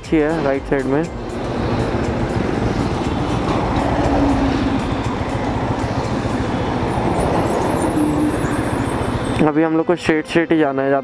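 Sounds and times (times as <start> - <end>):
train passing with clacking wheels: 0.0 - 9.5
road traffic: 0.0 - 10.4.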